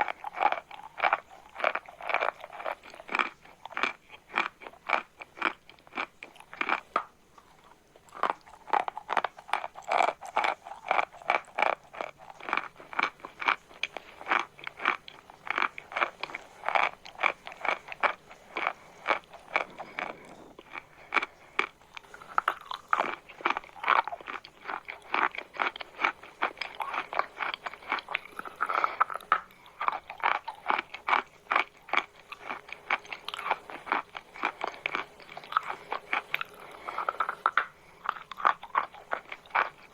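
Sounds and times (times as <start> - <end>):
chalk being chewed: 0.0 - 39.9.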